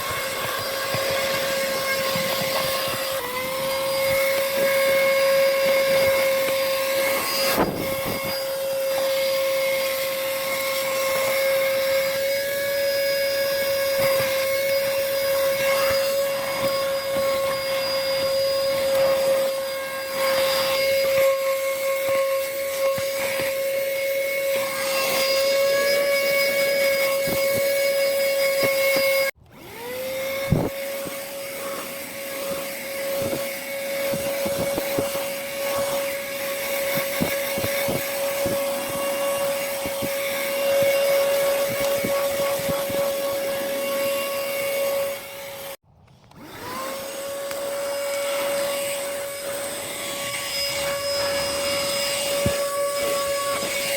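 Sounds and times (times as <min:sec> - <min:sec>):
handheld vacuum motor whine: 0:00.0 - 0:53.9.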